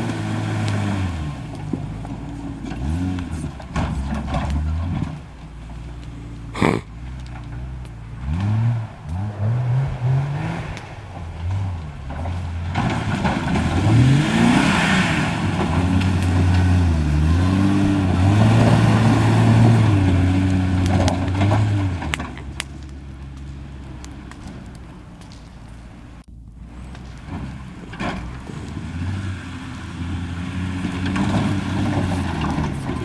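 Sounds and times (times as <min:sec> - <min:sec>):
pickup truck engine revving: 0:00.0 - 0:33.0.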